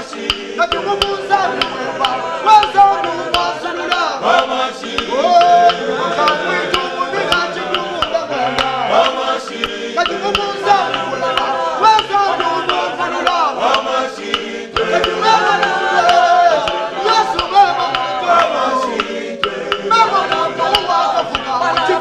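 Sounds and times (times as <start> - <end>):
gospel choir singing: 0.0 - 22.0
man singing lead: 0.0 - 22.0
steady percussive beat: 0.0 - 22.0.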